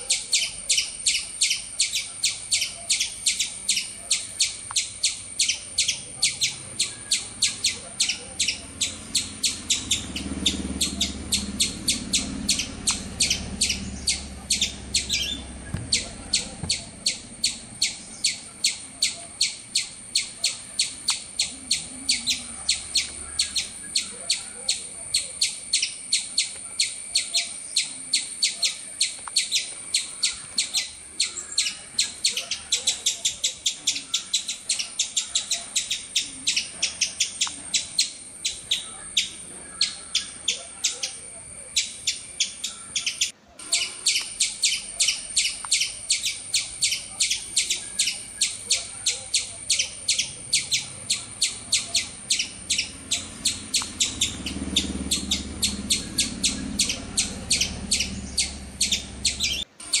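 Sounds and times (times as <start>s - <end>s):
small songbird chirping: 0.0s - 60.0s.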